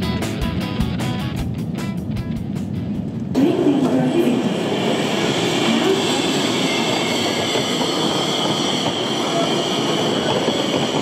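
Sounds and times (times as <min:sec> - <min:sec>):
train running on rails: 0:00.0 - 0:11.0.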